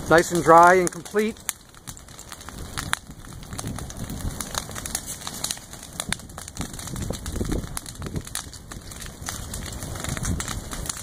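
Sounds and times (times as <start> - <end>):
fire crackling and popping: 0.0 - 11.0
low rumble of flames: 0.0 - 11.0.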